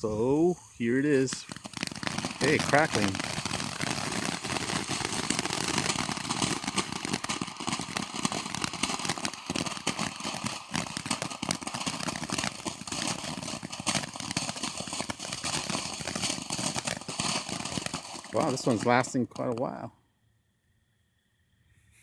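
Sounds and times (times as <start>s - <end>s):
firework fountain hissing and crackling: 0.0s - 19.9s.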